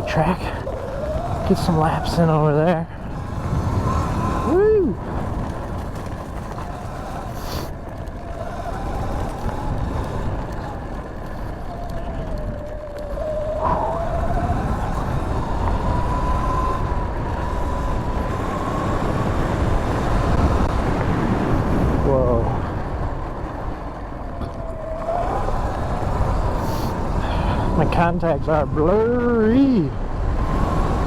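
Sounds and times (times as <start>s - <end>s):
electric dirt bike motor whining: 0.0s - 31.0s
low rumble: 0.0s - 31.0s.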